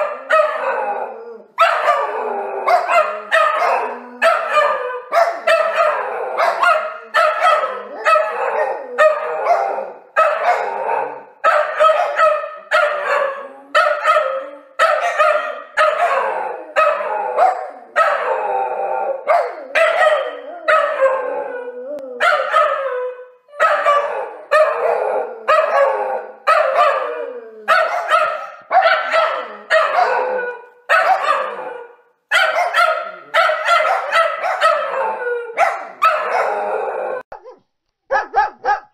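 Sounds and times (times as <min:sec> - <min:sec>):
dog barking angrily: 0:00.0 - 0:00.9, 0:01.5 - 0:18.4, 0:19.2 - 0:21.1, 0:22.2 - 0:22.8, 0:23.6 - 0:36.8, 0:38.1 - 0:38.9.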